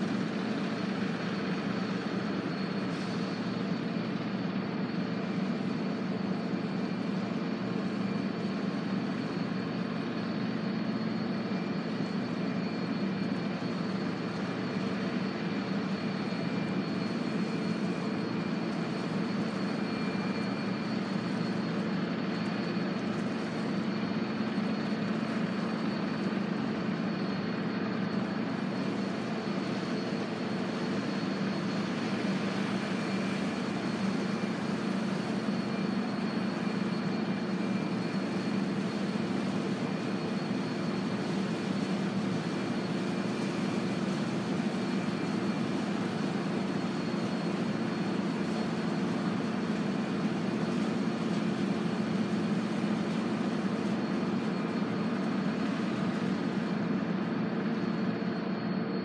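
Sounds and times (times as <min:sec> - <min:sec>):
thin high whine: 0:00.0 - 0:59.0.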